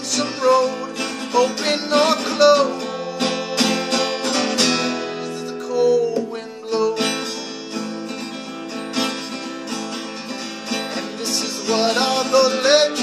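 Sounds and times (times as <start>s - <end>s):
acoustic guitar strummed slowly: 0.0s - 13.0s.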